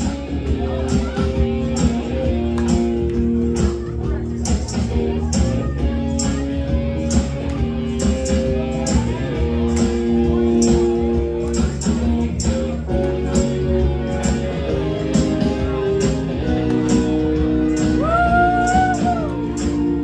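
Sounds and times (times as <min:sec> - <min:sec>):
guitars: 0:00.0 - 0:20.0
keyboard: 0:00.0 - 0:20.0.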